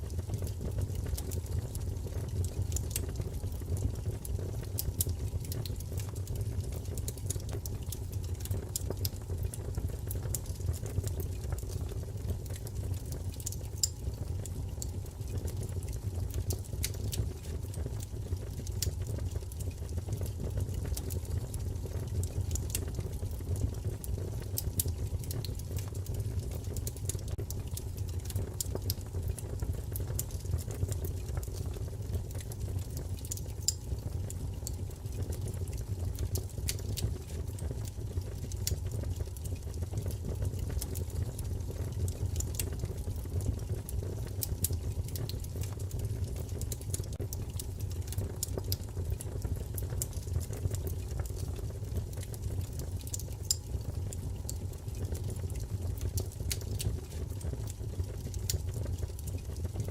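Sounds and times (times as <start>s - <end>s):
fire crackling and popping: 0.0s - 59.9s
wood fire rumbling: 0.0s - 59.9s.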